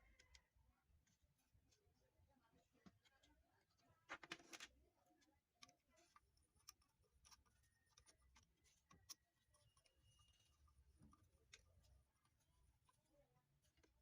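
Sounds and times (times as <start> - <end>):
faint clicks and knocks: 2.8 - 14.0.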